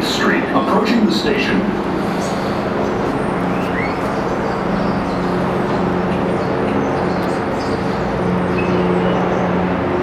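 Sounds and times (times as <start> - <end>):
subway train rumbling: 0.0 - 10.0.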